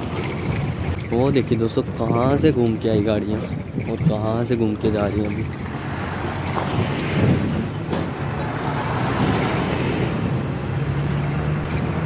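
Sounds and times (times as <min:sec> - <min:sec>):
bus engine hum: 0:00.0 - 0:12.0
wind noise: 0:00.0 - 0:12.0.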